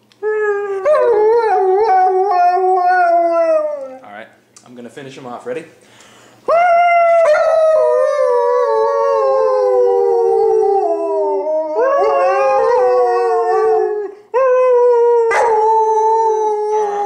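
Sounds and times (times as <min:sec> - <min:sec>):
dog howling: 0:00.2 - 0:04.0, 0:06.5 - 0:17.0.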